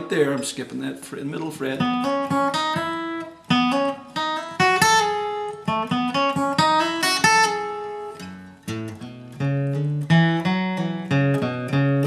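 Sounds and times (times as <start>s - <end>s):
acoustic guitar picking melody: 1.2s - 12.0s.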